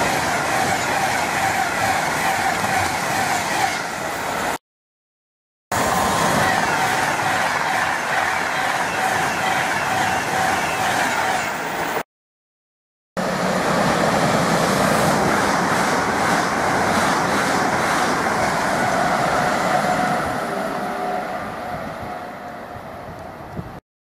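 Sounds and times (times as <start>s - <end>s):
electric train rushing by: 0.0s - 4.6s, 5.7s - 12.0s, 13.2s - 23.8s.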